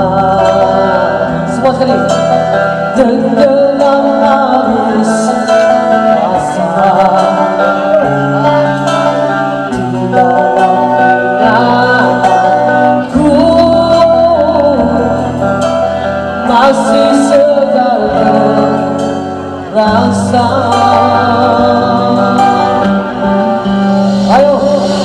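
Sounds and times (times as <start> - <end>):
karaoke backing track: 0.0 - 25.0
woman singing into a microphone: 0.0 - 25.0.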